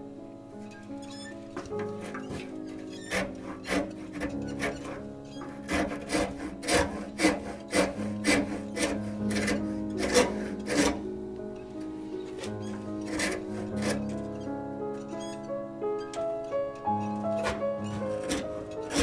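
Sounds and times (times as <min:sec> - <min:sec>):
background music: 0:00.0 - 0:19.0
rasp scraping wood: 0:00.6 - 0:19.0.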